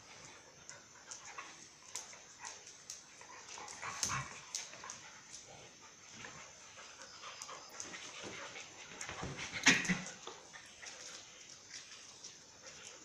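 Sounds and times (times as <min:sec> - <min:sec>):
dogs scuffling: 0:00.0 - 0:13.0.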